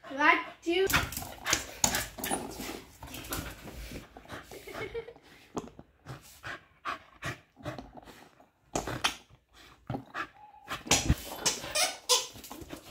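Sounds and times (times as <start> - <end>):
puppy breathing hard: 0.0 - 0.6, 1.4 - 11.4.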